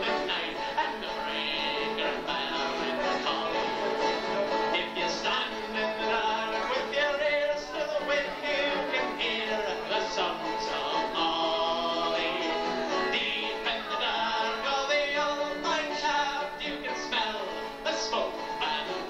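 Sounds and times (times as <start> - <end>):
folk band playing: 0.0 - 19.0.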